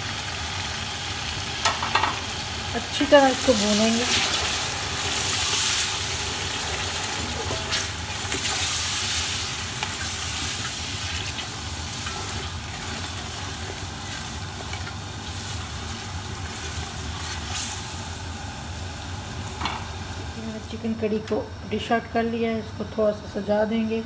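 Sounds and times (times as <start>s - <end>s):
food sizzling in hot oil: 0.0s - 21.2s.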